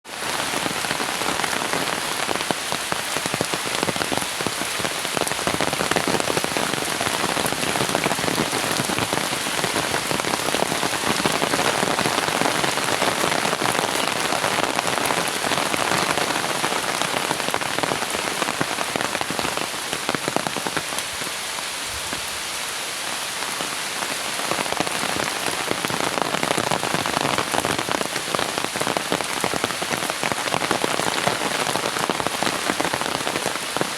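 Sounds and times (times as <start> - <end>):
heavy rain splashing: 0.0 - 33.9.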